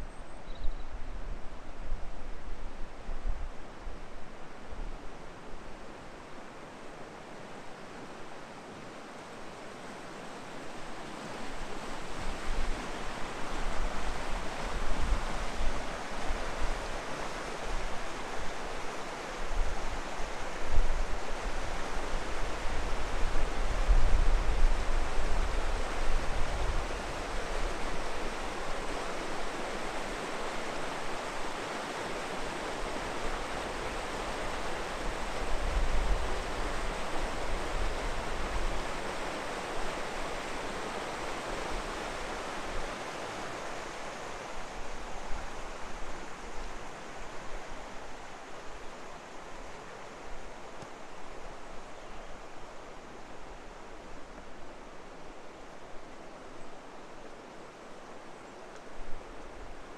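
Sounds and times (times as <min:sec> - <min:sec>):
stream rushing over stones: 0:05.3 - 0:59.9.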